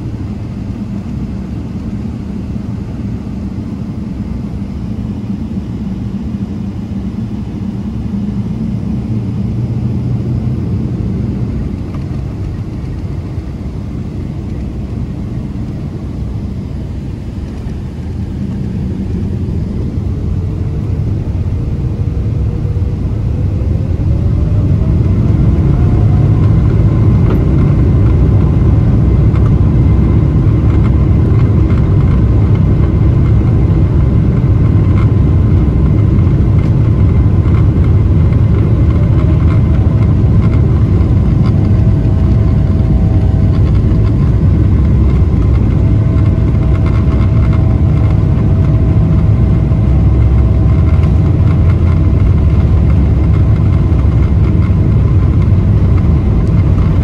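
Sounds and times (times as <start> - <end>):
jet engines spooling up and rumbling: 0.0 - 57.0.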